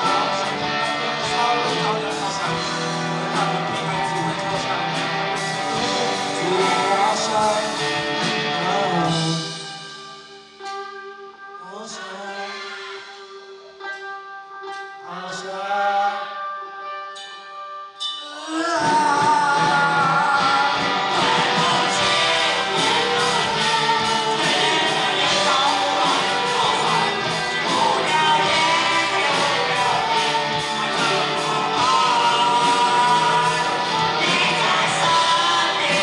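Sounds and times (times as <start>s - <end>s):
man singing: 0.0s - 10.1s, 11.6s - 13.2s, 15.0s - 16.7s, 18.2s - 36.0s
live rock band playing: 0.0s - 36.0s.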